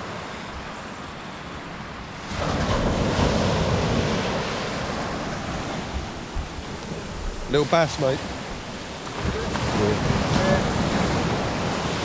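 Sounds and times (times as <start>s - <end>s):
sea waves breaking on beach: 0.0s - 12.0s
wind buffeting microphone: 2.3s - 12.0s.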